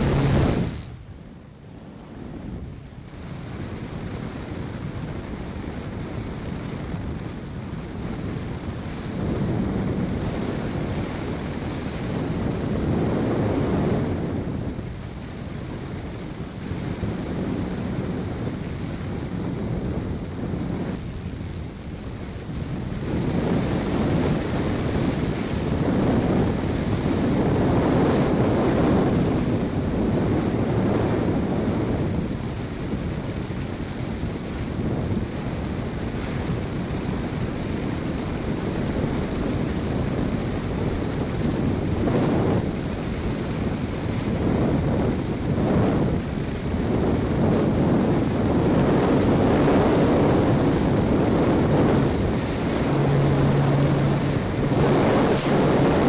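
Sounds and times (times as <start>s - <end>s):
airflow rushing over microphone: 0.0s - 56.0s
steady high whine: 0.0s - 56.0s.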